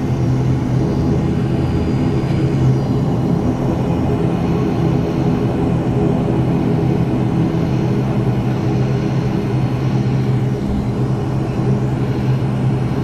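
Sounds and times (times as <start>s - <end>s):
turboprop engines humming in cabin: 0.0s - 13.0s.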